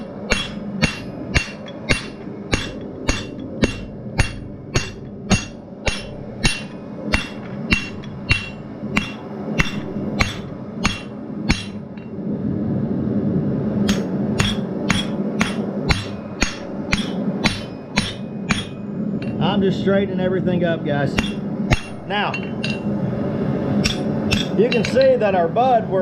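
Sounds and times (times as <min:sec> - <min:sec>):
hammer striking steel on anvil: 0:00.0 - 0:12.1, 0:13.8 - 0:19.5, 0:21.2 - 0:22.9, 0:23.8 - 0:25.2
steady low hum: 0:00.0 - 0:26.0.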